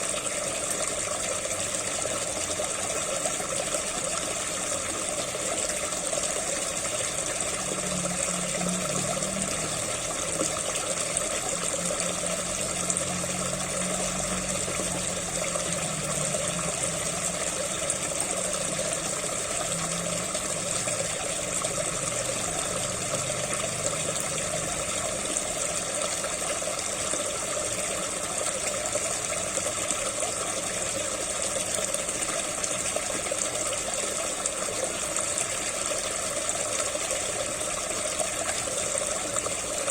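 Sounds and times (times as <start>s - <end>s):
pond pump humming: 0.0s - 39.9s
water gushing and splashing: 0.0s - 39.9s.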